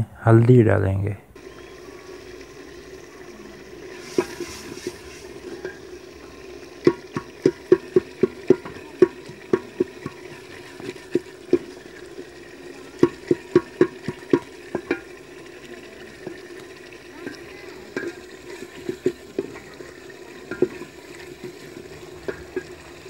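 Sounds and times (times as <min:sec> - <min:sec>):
food sizzling in a pot: 0:01.4 - 0:23.0
wooden spoon tapping a pot: 0:03.9 - 0:12.4, 0:13.0 - 0:23.0.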